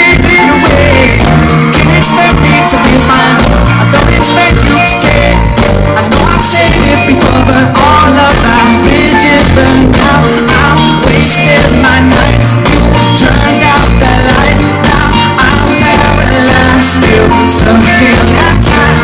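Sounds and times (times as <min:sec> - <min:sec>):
heavy booming bass: 0:00.0 - 0:19.0
live pop-rock band: 0:00.0 - 0:19.0
person singing: 0:00.0 - 0:19.0.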